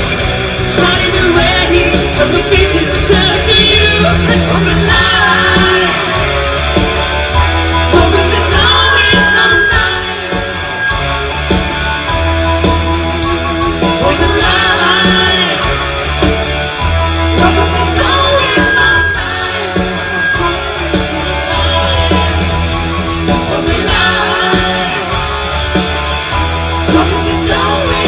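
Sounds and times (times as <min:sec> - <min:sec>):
person singing: 0:00.0 - 0:07.0, 0:07.7 - 0:10.9, 0:13.7 - 0:16.4, 0:17.1 - 0:25.9, 0:26.8 - 0:28.0
rock band playing: 0:00.0 - 0:28.0.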